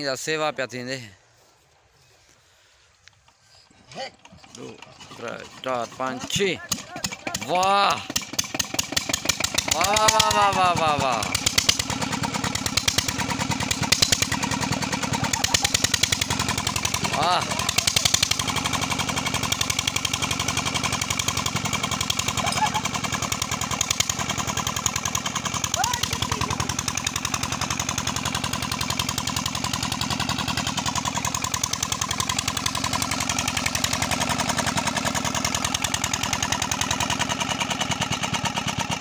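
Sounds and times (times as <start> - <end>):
diesel engine chugging: 3.0 - 39.0.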